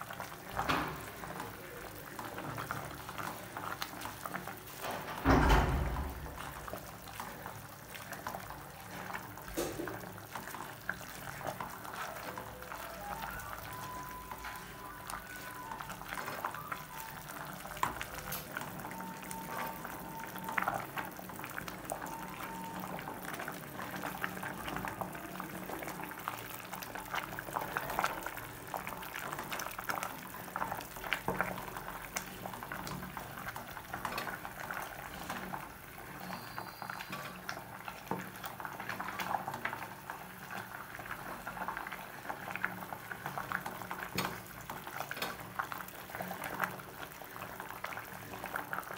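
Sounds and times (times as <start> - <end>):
soup boiling and bubbling: 0.0 - 48.9.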